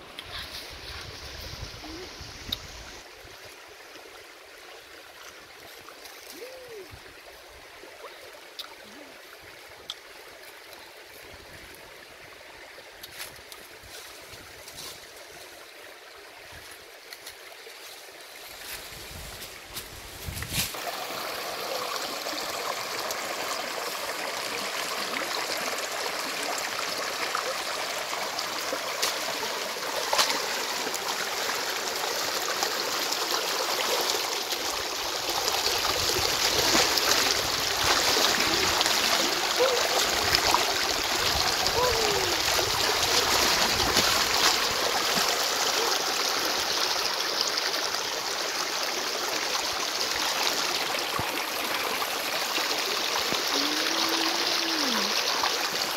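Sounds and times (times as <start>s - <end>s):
stream water over rock: 0.0s - 55.9s.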